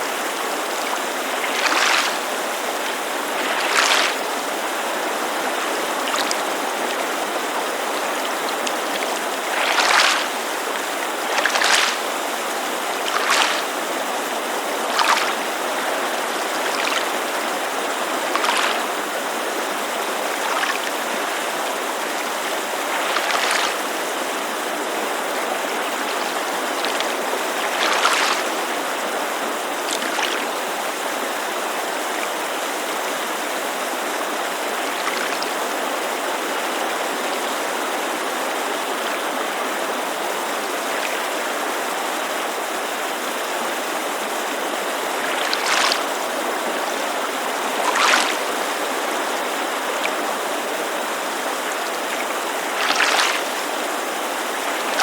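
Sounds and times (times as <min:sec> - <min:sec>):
mountain creek rushing: 0:00.0 - 0:55.0
water lapping against shore: 0:00.0 - 0:55.0.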